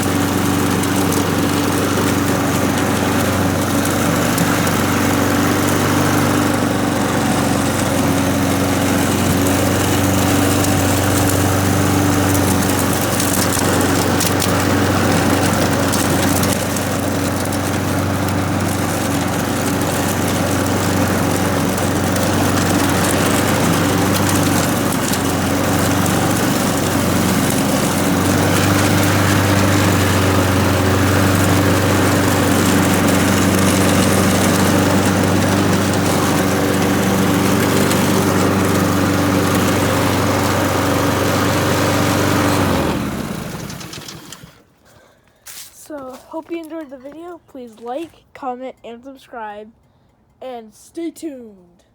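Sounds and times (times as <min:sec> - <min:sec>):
lawn mower engine running: 0:00.0 - 0:46.1.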